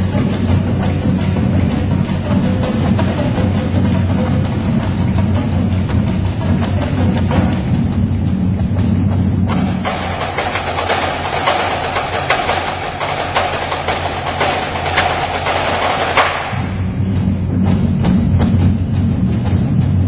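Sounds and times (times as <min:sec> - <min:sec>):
deep low drums: 0:00.0 - 0:20.0
dense high drumming: 0:00.0 - 0:20.0.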